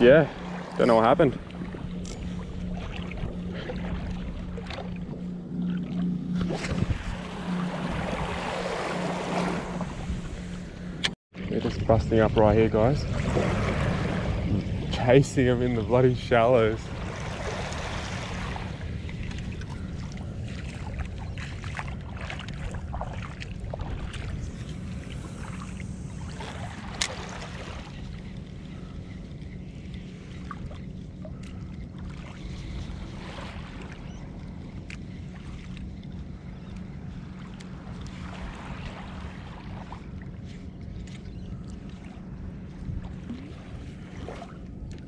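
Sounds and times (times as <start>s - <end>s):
wind rumble on microphone: 0.0s - 45.0s.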